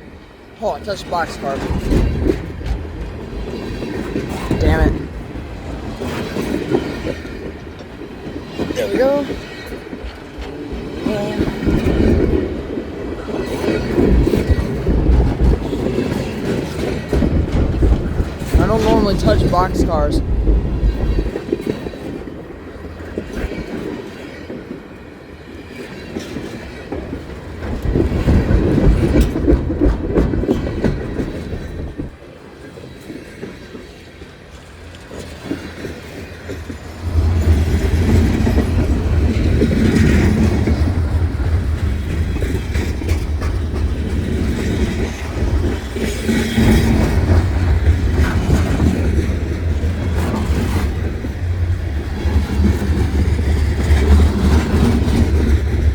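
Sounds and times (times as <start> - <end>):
train wheels clacking on rails: 1.1 - 55.9.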